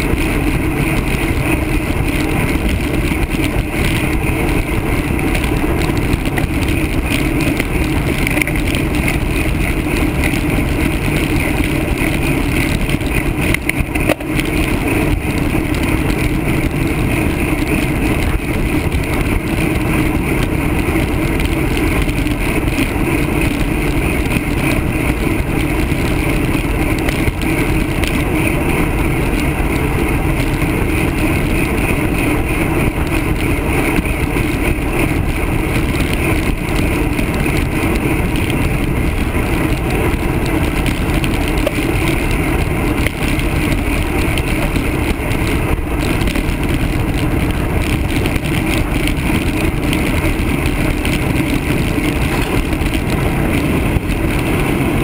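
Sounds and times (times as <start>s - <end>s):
road rumble: 0.0s - 55.0s
wind rush on microphone: 0.0s - 55.0s.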